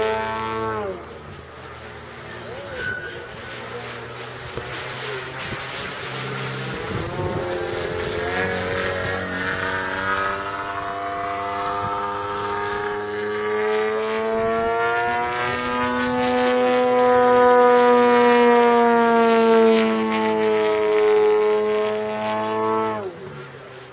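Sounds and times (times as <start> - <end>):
model plane engine droning: 0.0 - 23.9.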